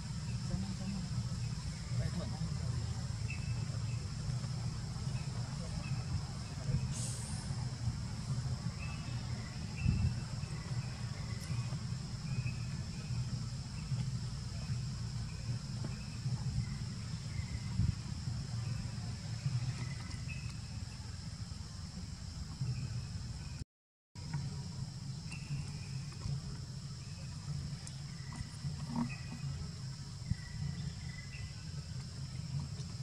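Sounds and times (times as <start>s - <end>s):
low steady rumble: 0.0s - 23.6s, 24.2s - 33.0s.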